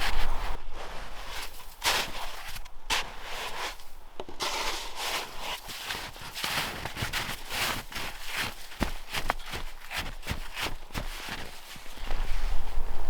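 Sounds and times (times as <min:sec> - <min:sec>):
footsteps crunching in snow: 0:00.0 - 0:13.0.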